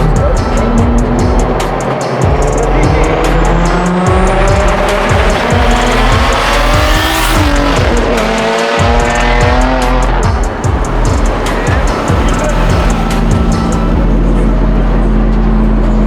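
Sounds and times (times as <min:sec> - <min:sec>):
background music with steady beat: 0:00.0 - 0:16.0
car engine accelerating hard: 0:00.0 - 0:16.0.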